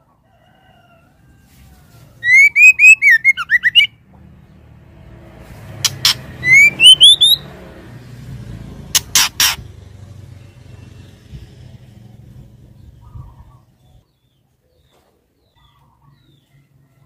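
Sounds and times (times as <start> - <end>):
low rumble of motor vehicle: 0.0 - 17.0.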